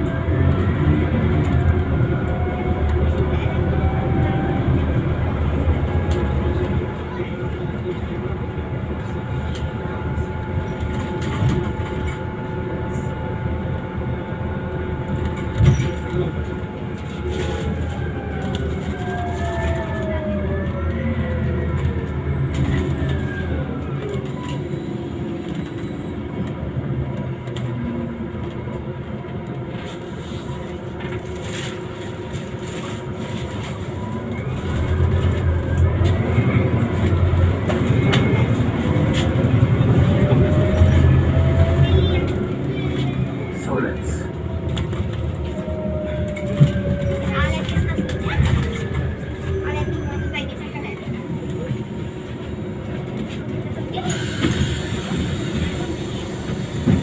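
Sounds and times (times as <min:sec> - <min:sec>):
bus engine hum: 0:00.0 - 0:57.0.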